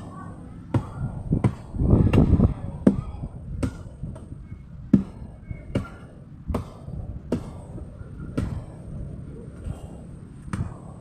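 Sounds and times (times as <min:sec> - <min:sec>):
low rumbling background: 0:00.0 - 0:11.0.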